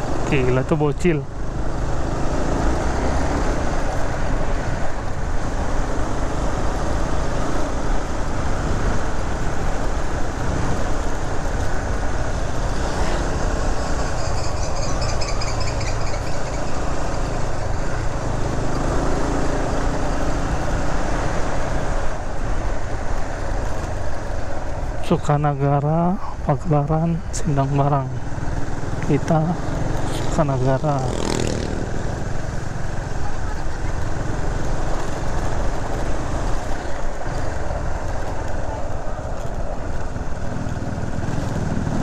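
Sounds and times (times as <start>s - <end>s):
vehicle engine and road noise: 0.0s - 42.0s.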